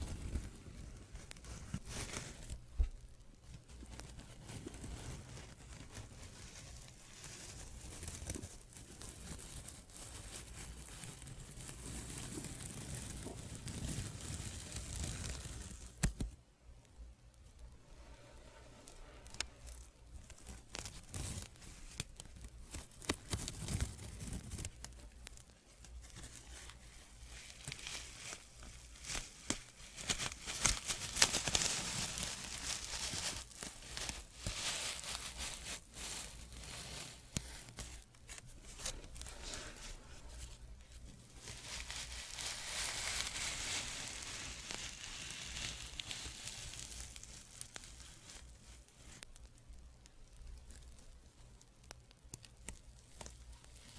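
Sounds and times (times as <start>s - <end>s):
soft scratching: 0.0s - 16.4s, 17.3s - 49.5s.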